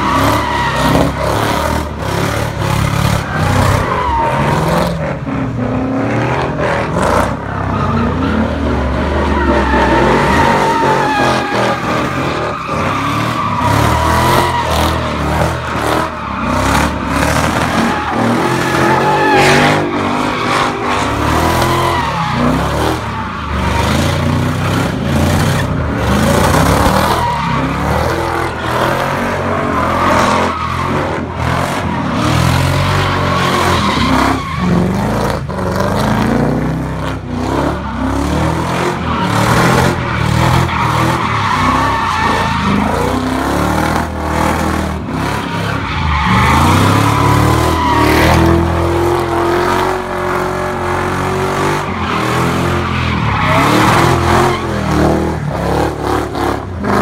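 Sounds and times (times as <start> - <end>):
car engines revving: 0.0 - 57.0
tyres squealing and skidding: 0.0 - 57.0.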